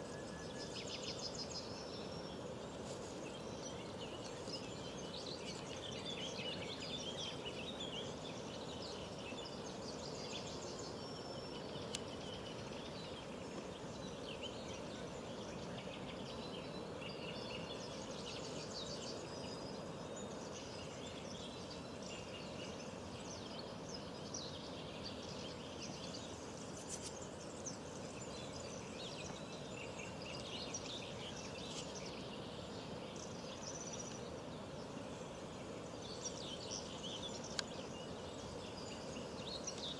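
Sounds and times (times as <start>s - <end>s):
low background noise: 0.0s - 39.9s
small birds singing and chirping: 0.0s - 39.9s.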